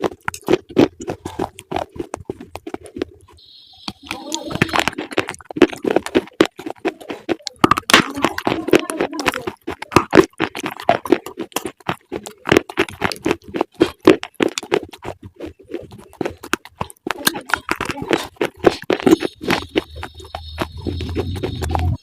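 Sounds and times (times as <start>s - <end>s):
crunchy food being chewed: 0.0s - 22.0s.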